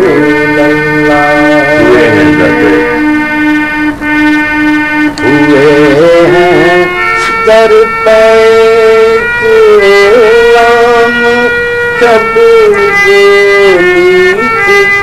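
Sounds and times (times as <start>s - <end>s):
man singing: 0.0s - 3.4s, 5.1s - 15.0s
harmonium chords: 0.0s - 15.0s.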